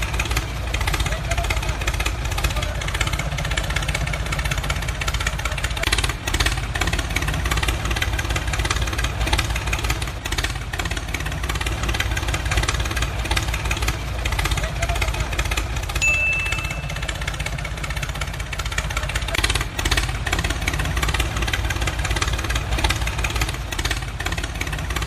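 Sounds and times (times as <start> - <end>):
motor running with pulsing rattle: 0.0 - 25.0.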